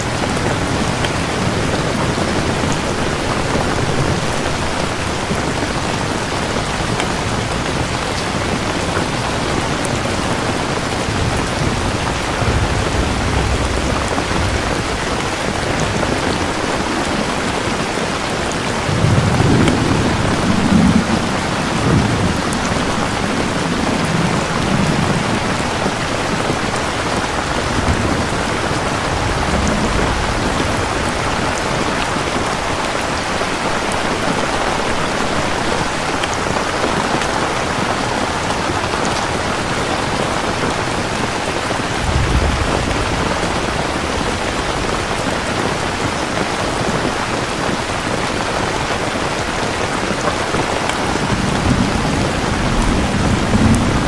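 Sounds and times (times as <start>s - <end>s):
heavy rain falling: 0.0s - 54.0s
thunder rumbling: 0.0s - 54.0s.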